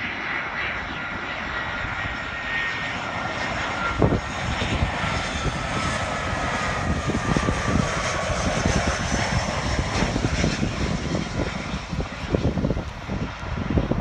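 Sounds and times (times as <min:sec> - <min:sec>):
jet engines of landing airliner: 0:00.0 - 0:14.0.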